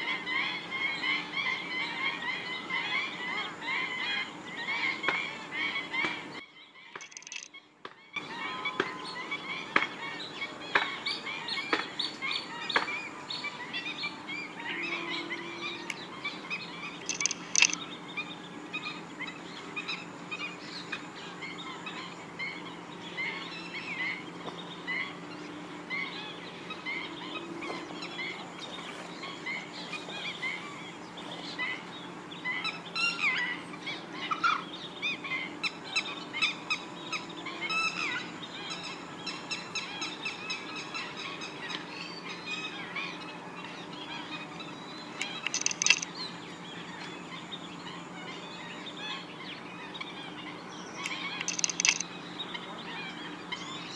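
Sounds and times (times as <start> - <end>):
flock of birds chattering: 0.0 - 53.9.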